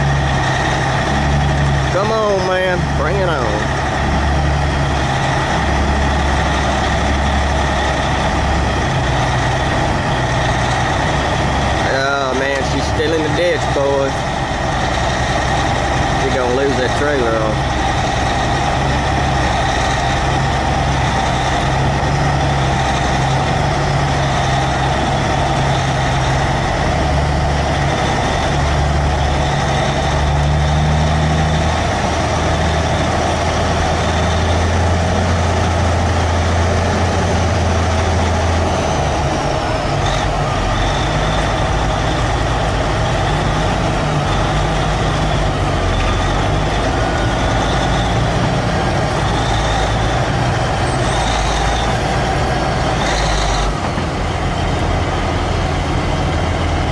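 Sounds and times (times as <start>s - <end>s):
diesel truck engine under load: 0.0s - 56.9s.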